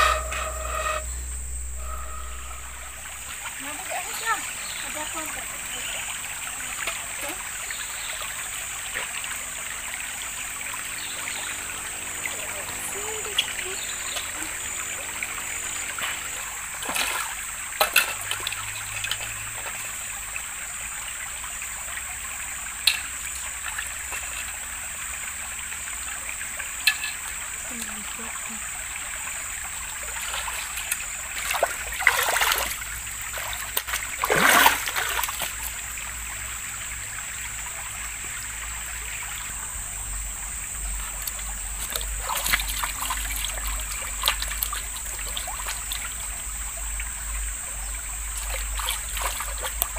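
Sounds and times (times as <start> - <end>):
river water flowing: 0.0 - 49.9
water splashes: 1.8 - 49.9.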